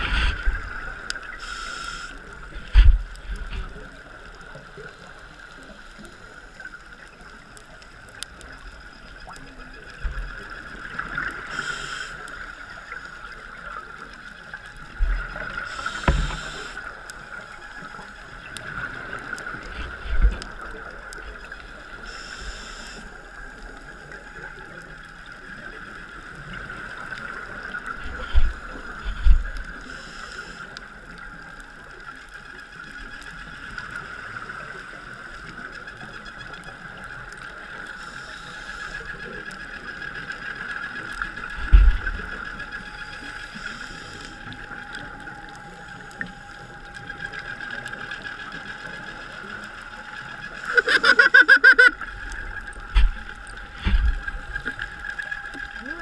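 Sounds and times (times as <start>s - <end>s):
steady underwater hum: 0.0s - 56.0s.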